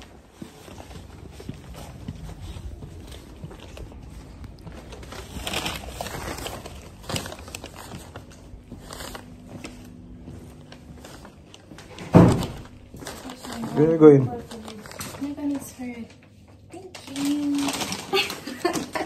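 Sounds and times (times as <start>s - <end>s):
paper bag crinkling: 0.0s - 19.0s.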